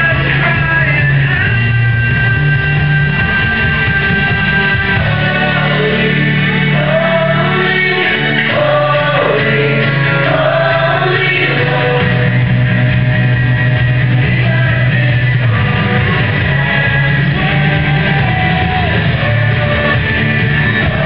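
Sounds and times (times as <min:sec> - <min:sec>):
long low bass notes: 0:00.0 - 0:21.0
song with sung vocals: 0:00.0 - 0:21.0.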